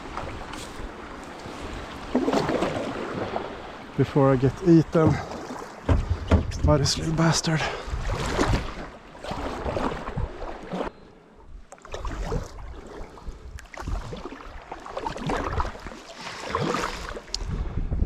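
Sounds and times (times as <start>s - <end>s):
paddle splashing in water: 0.0s - 10.9s, 11.7s - 17.4s.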